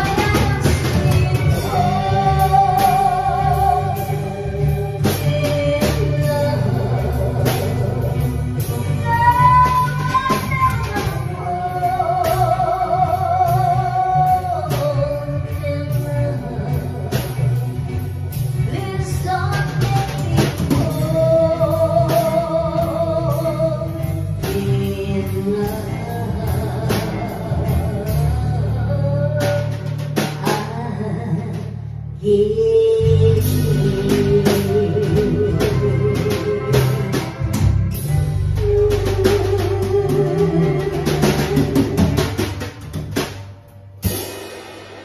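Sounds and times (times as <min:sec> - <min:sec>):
woman singing into a microphone: 0:00.0 - 0:43.0
band with drums: 0:00.0 - 0:45.0.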